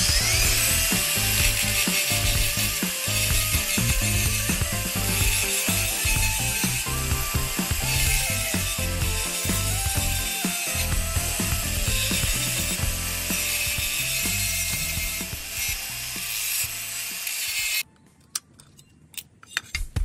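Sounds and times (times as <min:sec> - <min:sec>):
angle grinder grinding metal: 0:00.0 - 0:17.8.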